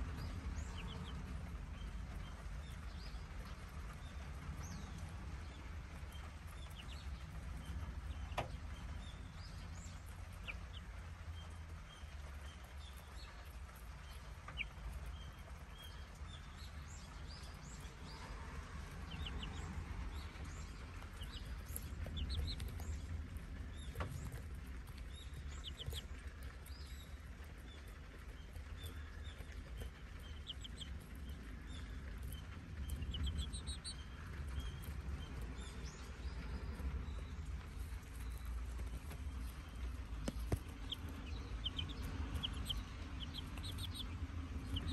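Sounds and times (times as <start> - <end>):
low steady rumble: 0.0 - 44.9
young chickens cheeping: 0.0 - 44.9.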